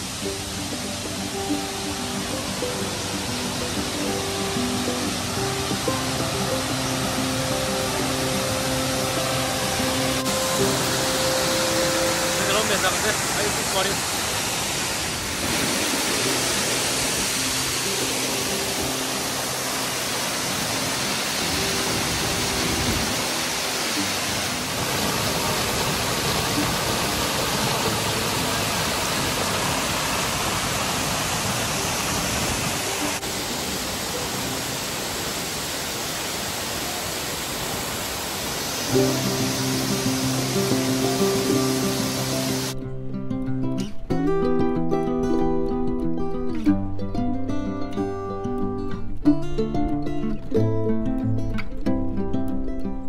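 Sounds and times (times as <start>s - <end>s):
steady rushing noise: 0.0s - 42.8s.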